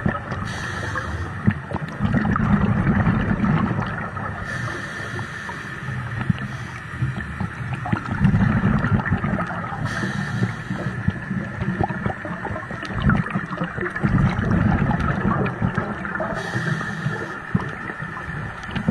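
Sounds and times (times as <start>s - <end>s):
low rumbling water surges: 0.0s - 18.9s
muffled underwater hiss: 0.0s - 18.9s.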